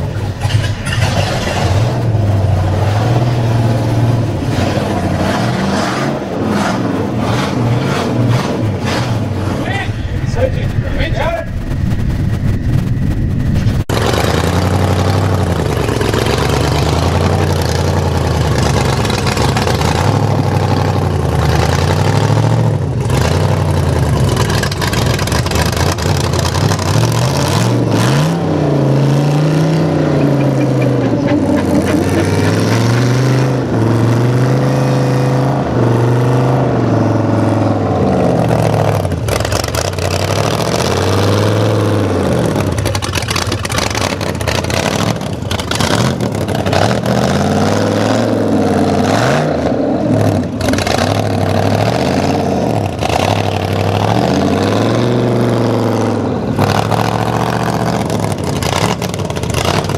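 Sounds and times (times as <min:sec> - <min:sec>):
truck engine revving hard: 0:00.0 - 0:59.9.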